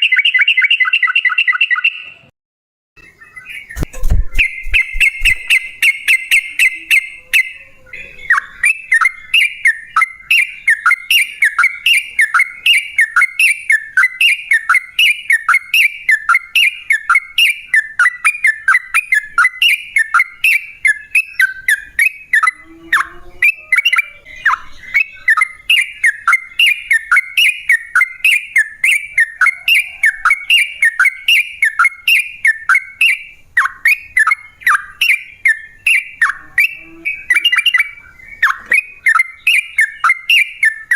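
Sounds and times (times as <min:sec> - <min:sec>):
bird singing bubbling notes: 0:03.0 - 0:40.9.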